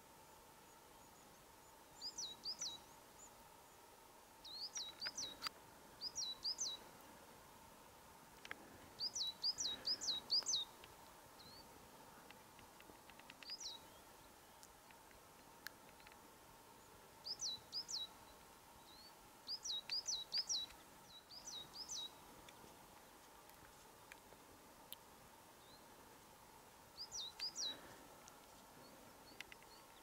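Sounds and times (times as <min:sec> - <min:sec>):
songbird chirping: 0:00.1 - 0:30.0.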